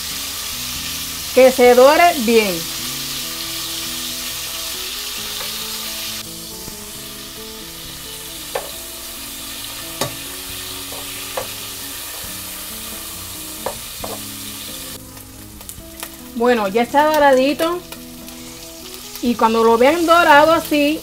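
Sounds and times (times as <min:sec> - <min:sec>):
bacon sizzling in oil: 0:00.0 - 0:21.0.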